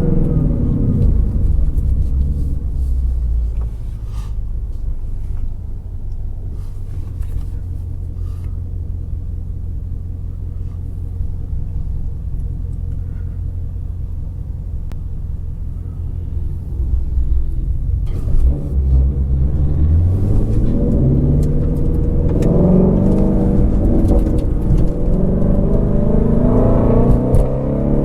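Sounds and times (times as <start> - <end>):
car engine rumbling at low revs: 0.0 - 28.0.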